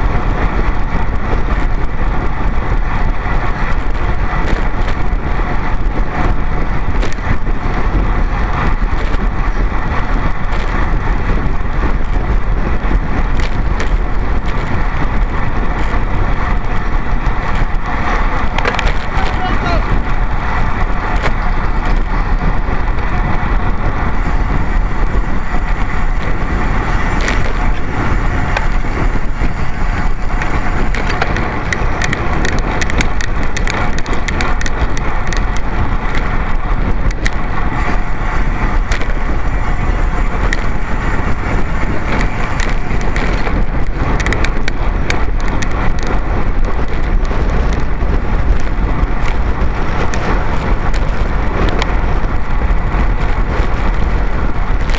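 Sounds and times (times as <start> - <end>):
road noise: 0.0 - 54.9
small clicks and rattles: 0.0 - 54.9
wind rush on microphone: 0.0 - 54.9.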